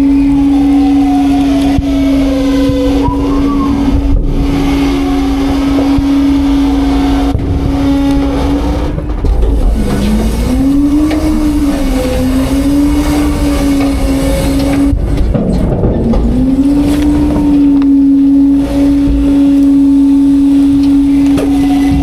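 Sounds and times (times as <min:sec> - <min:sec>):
garbage truck hydraulics whining: 0:00.0 - 0:22.0.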